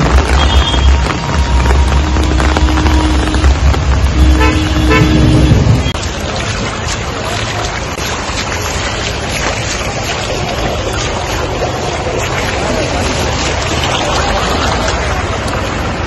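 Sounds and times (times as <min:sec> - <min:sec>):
heavy rain on pavement: 0:00.0 - 0:16.0
rainwater streaming across road: 0:00.0 - 0:16.0.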